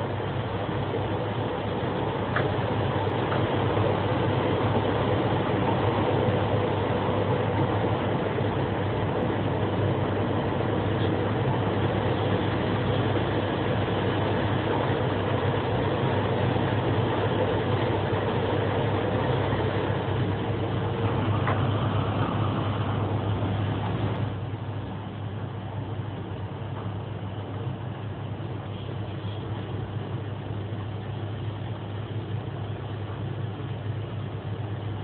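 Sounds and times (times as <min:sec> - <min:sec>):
electric train running: 0:00.0 - 0:35.0
faint steady whine: 0:00.0 - 0:35.0.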